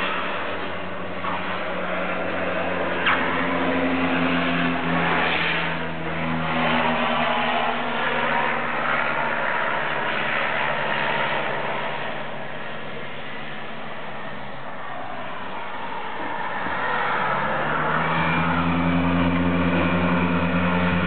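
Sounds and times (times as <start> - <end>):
turboprop plane engines running: 0.0 - 21.0.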